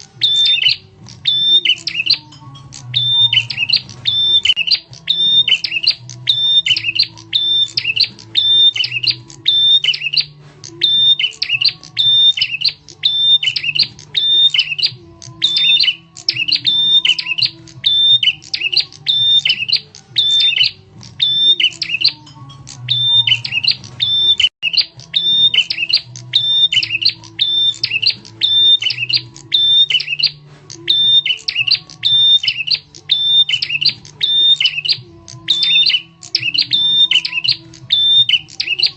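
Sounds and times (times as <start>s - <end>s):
bird call lure recording: 0.0s - 38.9s.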